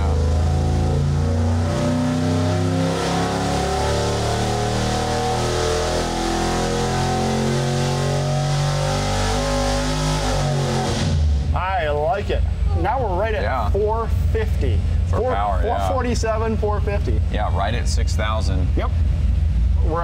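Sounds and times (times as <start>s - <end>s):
engine revving under load: 0.0s - 20.0s.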